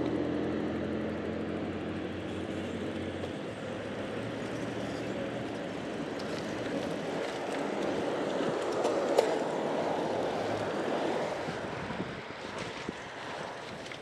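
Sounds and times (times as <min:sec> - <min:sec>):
bicycle tyres and wind rushing: 0:00.0 - 0:14.0.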